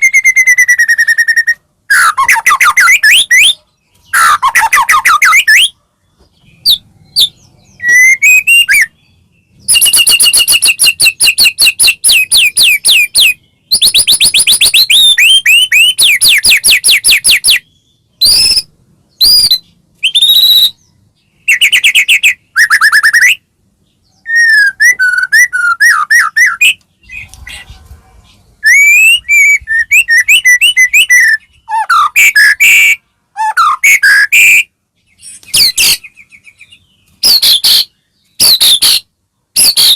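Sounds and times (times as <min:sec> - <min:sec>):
songbird singing whistled phrases: 0:00.0 - 0:23.4, 0:24.0 - 0:39.9.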